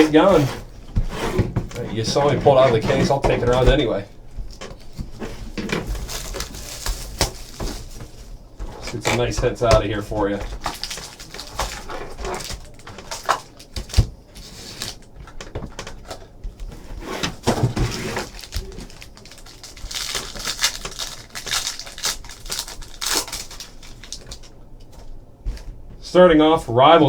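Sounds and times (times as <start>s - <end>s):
packaging rustling: 0.0s - 25.8s.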